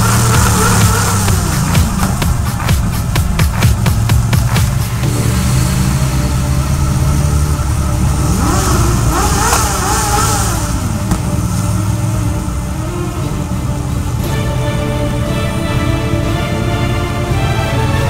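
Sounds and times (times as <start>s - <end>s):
motorcycle engine revving: 0.0s - 18.0s
motorcycle engines running: 0.0s - 18.0s.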